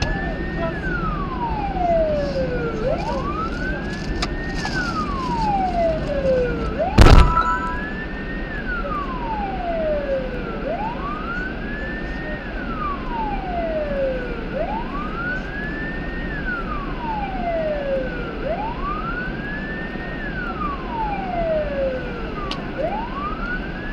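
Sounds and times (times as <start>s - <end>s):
police siren wailing: 0.0s - 23.9s.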